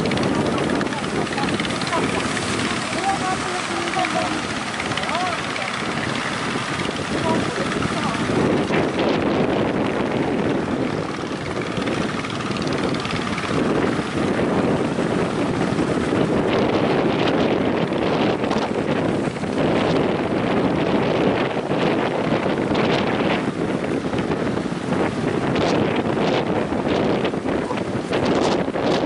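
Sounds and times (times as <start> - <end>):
surf rushing: 0.0 - 29.0
wind buffeting microphone: 0.0 - 29.0.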